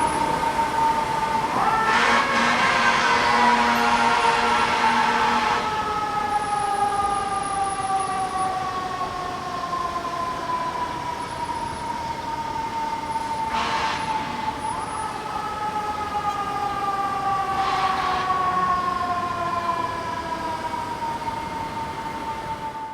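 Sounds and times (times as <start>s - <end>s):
siren wailing: 0.0s - 22.9s.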